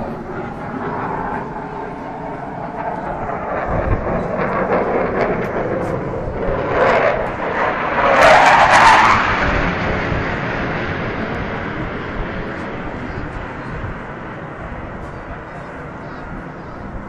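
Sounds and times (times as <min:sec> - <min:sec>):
loud jet engine noise: 0:00.0 - 0:17.0.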